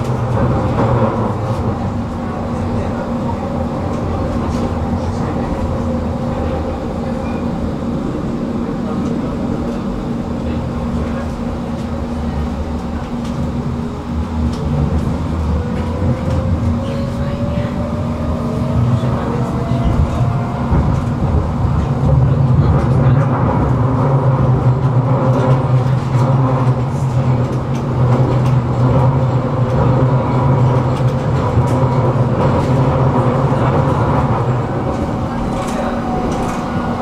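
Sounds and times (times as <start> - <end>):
tram traction motor hum: 0.0 - 37.0
wheels rolling on rail: 0.0 - 37.0.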